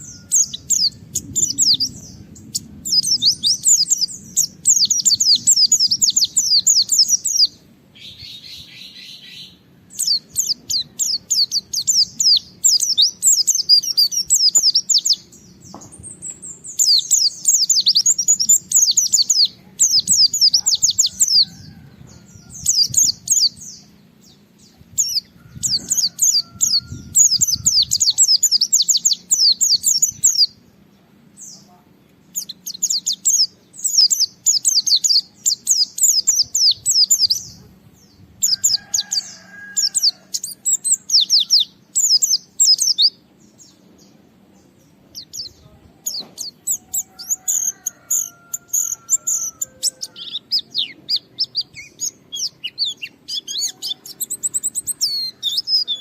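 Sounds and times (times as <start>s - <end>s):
bird singing chattering song: 0.0s - 56.0s.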